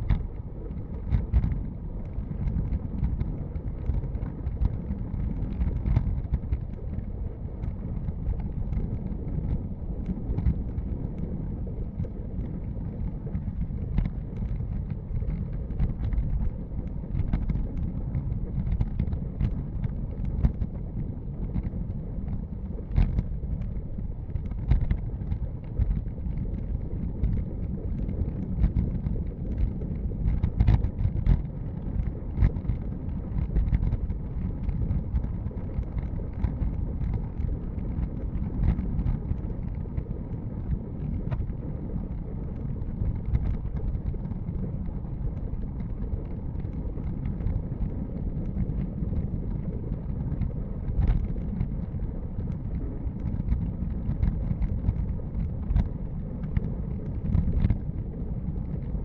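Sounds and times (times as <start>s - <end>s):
small clicks and knocks from road: 0.0s - 59.0s
wind buffeting microphone: 0.0s - 59.0s.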